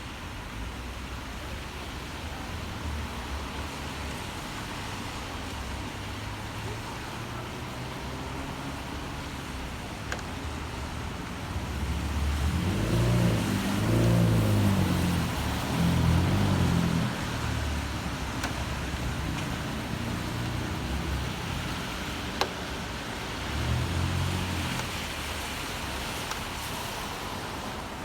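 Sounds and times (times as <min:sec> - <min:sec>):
low rumble of cars: 0:00.0 - 0:28.0
rain hissing: 0:02.3 - 0:28.0.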